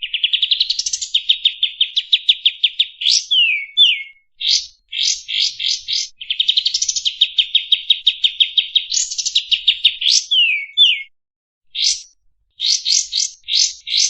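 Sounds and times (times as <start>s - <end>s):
bird singing rapid chirps: 0.0s - 11.1s, 11.7s - 14.0s.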